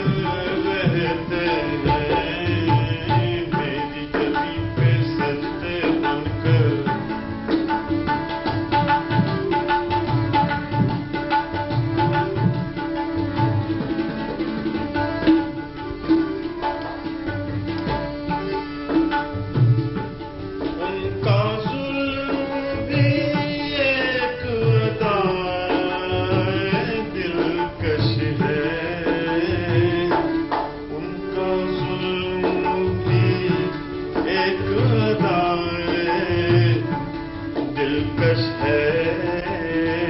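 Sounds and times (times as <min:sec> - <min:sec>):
tabla rhythm: 0:00.0 - 0:40.0.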